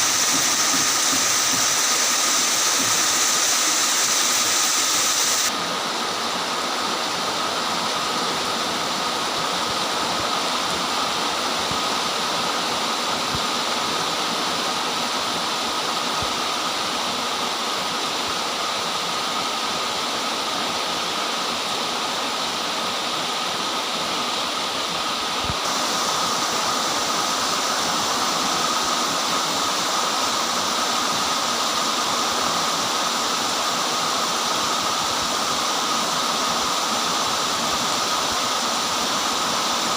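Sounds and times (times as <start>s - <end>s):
torrential rain pouring: 0.0s - 20.0s, 21.5s - 39.9s.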